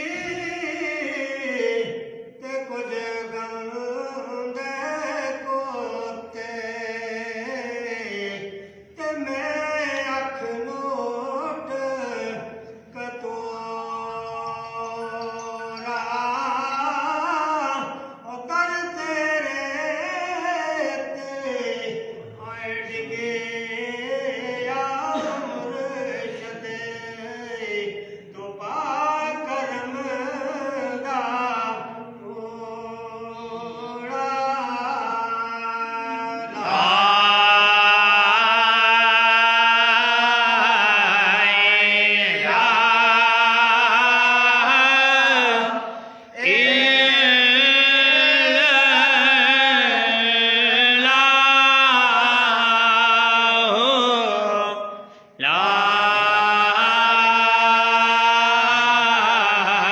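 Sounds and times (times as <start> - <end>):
man chanting: 0.0 - 59.9.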